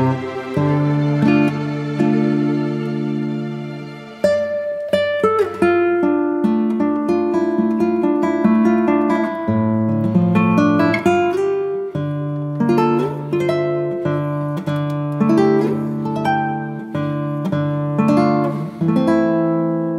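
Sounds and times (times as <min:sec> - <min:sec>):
strummed string instrumental music: 0:00.0 - 0:19.9.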